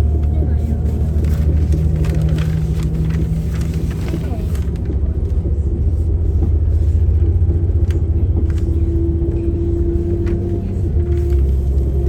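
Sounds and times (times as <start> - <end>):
train cabin low rumble: 0.0 - 12.0.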